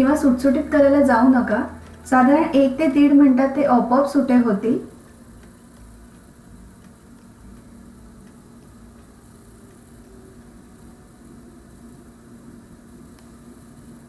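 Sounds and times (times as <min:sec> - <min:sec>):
low steady hum: 0:00.0 - 0:14.0
pot of water boiling: 0:00.0 - 0:14.0.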